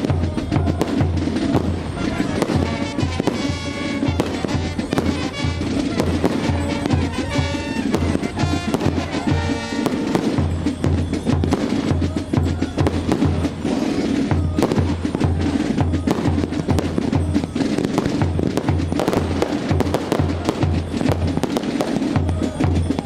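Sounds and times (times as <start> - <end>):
fireworks banging and crackling: 0.0 - 23.0.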